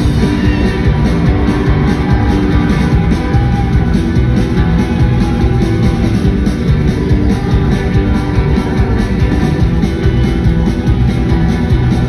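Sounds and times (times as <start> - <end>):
drum kit: 0.0 - 12.0
electric guitars strummed: 0.0 - 12.0.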